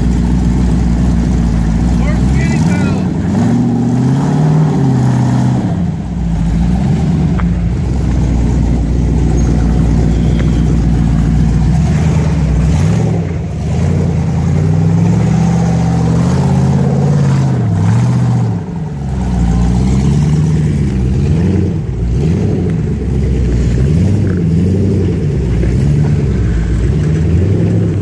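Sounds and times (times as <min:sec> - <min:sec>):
jeep engine revving: 0:00.0 - 0:28.0.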